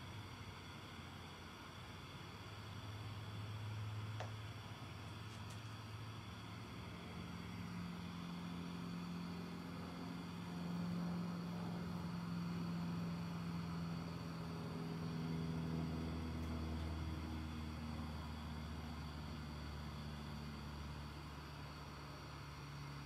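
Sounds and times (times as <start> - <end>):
low machine hum: 0.0 - 23.0
torch flame hissing: 0.0 - 23.0.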